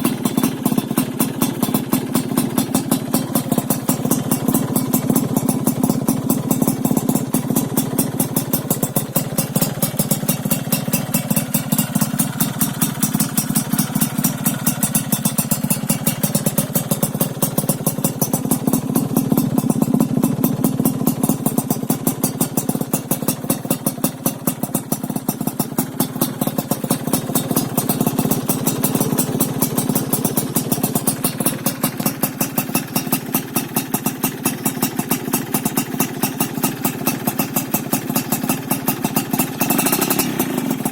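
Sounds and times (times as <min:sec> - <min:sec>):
two-stroke engine idling: 0:00.0 - 0:40.9.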